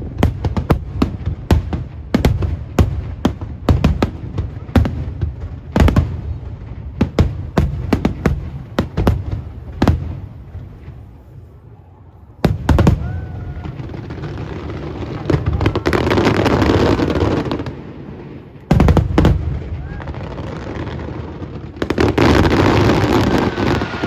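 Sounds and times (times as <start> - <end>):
fireworks bursting with bangs: 0.0 - 24.0.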